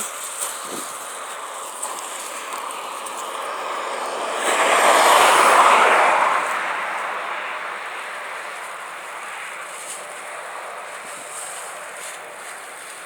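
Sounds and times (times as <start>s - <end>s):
highway traffic noise: 0.0s - 13.0s
vehicle passing: 0.0s - 13.0s.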